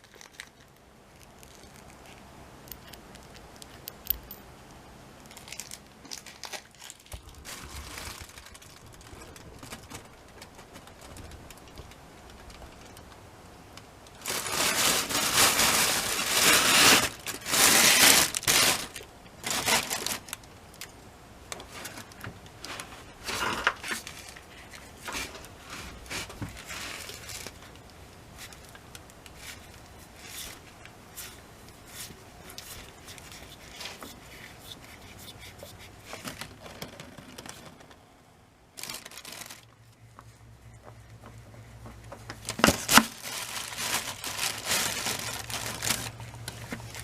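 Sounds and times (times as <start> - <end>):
crinkling rustling handling noise: 0.0 - 4.4, 5.2 - 47.0.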